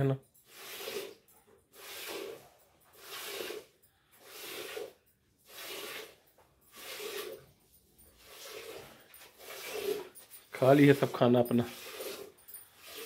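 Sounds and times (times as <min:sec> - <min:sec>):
milk squirting into metal pail: 0:00.0 - 0:07.5, 0:08.2 - 0:13.0.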